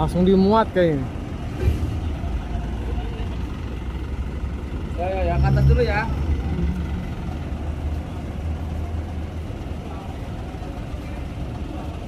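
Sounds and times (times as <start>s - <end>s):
general noise haze: 0.0s - 12.0s
heavy diesel engines idling: 0.0s - 12.0s.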